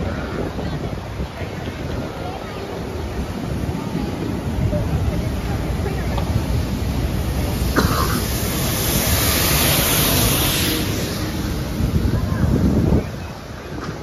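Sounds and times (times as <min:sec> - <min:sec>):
street crowd noise: 0:00.0 - 0:14.0
wind buffeting microphone: 0:00.0 - 0:14.0.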